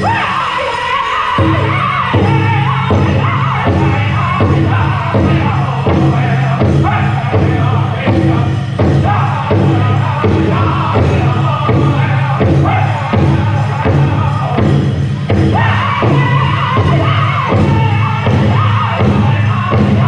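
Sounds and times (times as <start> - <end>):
high-pitched voices singing: 0.0 - 20.0
big drum steady beat: 1.4 - 20.0.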